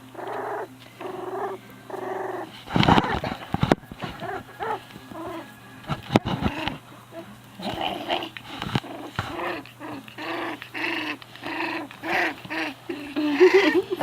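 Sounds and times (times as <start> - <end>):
puppies play-growling: 0.0 - 14.0.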